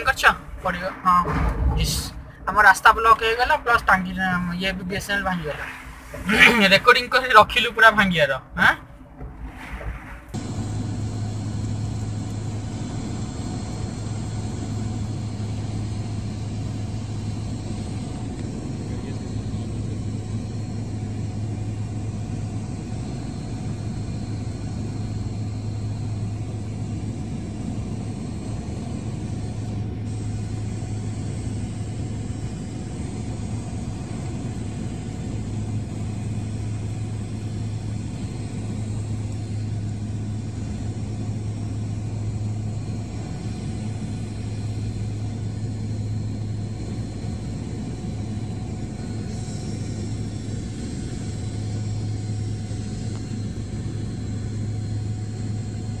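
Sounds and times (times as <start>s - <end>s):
aircraft engine drone in cabin: 0.0s - 56.0s
faint whines: 0.0s - 56.0s.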